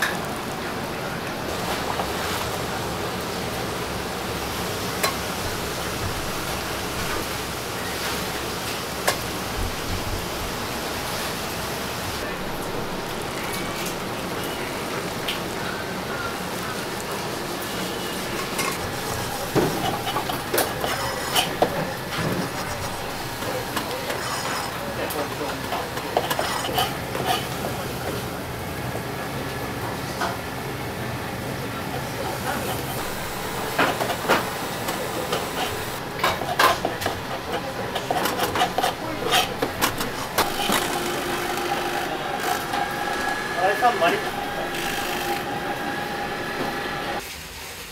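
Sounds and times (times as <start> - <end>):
kitchen hum: 0.0 - 47.3.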